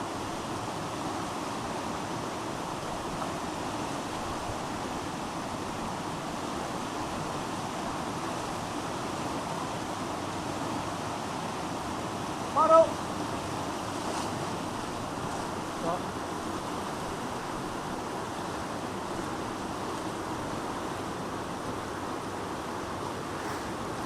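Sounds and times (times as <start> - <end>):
fast-flowing river water: 0.0 - 24.0.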